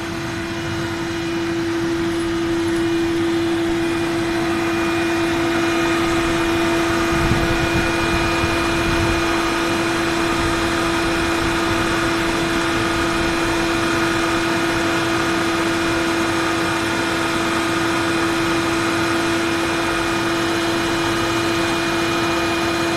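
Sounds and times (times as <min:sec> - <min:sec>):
carding machine whine: 0:00.0 - 0:22.9.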